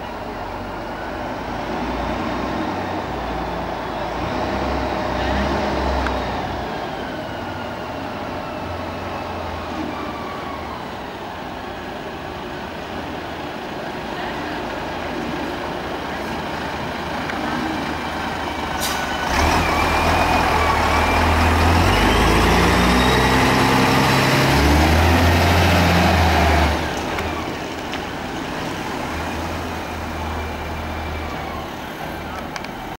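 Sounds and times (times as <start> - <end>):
diesel truck driving past: 0.0 - 33.0.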